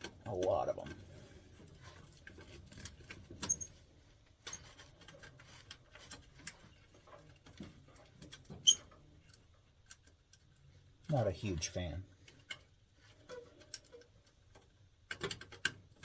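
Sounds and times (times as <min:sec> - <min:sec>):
clicks taps and scrapes on wiring: 0:00.0 - 0:11.1, 0:12.2 - 0:16.0.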